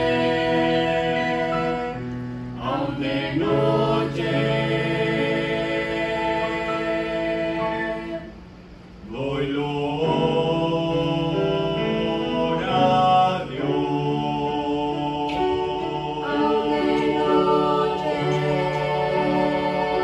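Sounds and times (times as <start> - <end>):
vocal group singing a hymn: 0.0 - 20.0.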